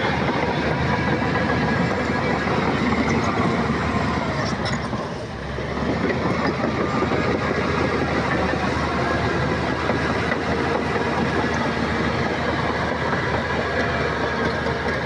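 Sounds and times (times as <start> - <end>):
bulldozer diesel engine running: 0.0 - 15.0
steel tracks clanking: 0.0 - 15.0.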